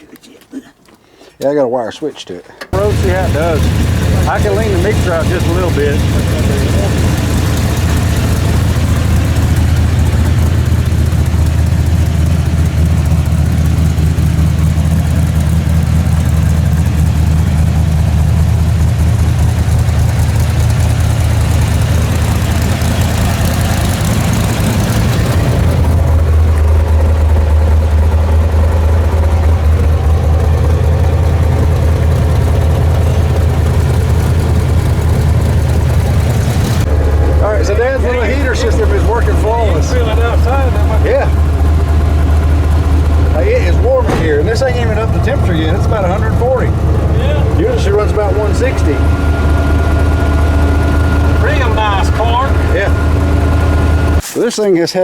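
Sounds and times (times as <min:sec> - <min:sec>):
truck engine running: 0:02.7 - 0:54.2.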